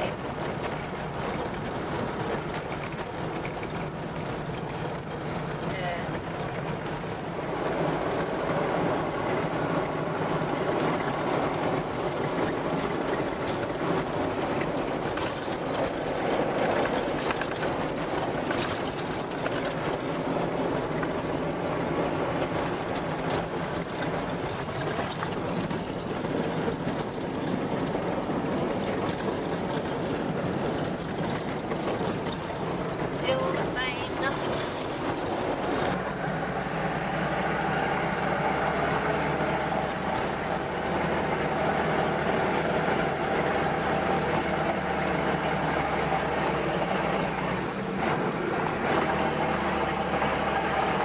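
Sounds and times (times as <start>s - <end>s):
vehicle body rattling: 0.0s - 36.5s, 37.2s - 51.0s
vehicle engine and tyre noise: 0.0s - 51.0s.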